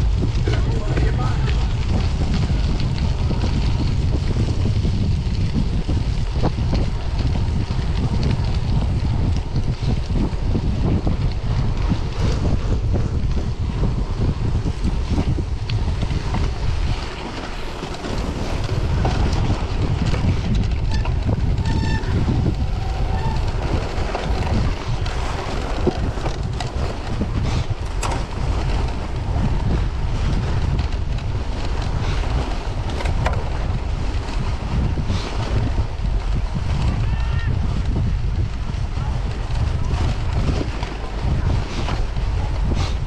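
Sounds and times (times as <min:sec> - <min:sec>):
wind rumbling on microphone: 0:00.0 - 0:43.0.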